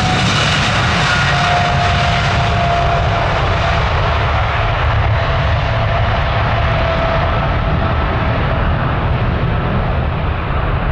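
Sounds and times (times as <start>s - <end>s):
jet engines running: 0.0s - 10.9s.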